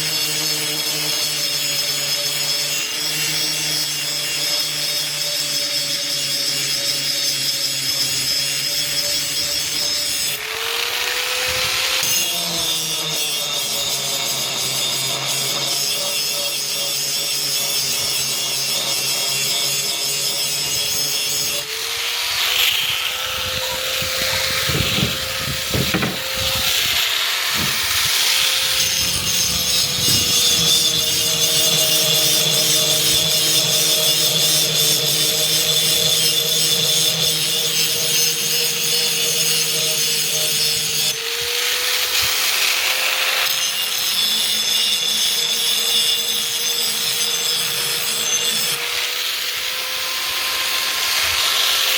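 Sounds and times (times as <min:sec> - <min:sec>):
power grinder sharpening metal: 0:00.0 - 0:51.9.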